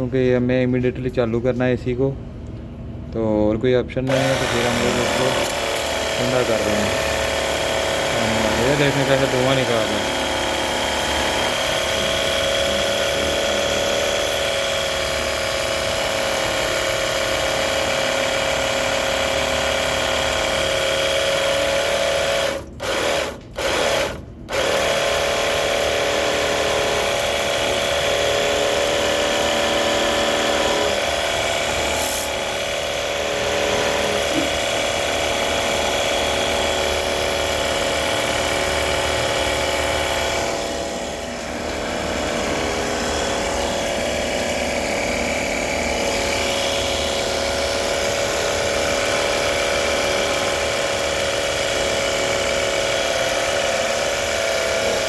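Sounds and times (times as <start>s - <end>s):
small electric motor whining: 4.1s - 55.0s.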